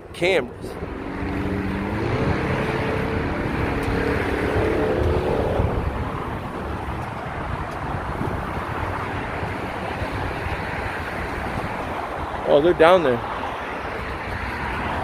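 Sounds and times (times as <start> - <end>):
traffic rumble: 0.0 - 15.0
passing vehicle engine: 0.4 - 15.0.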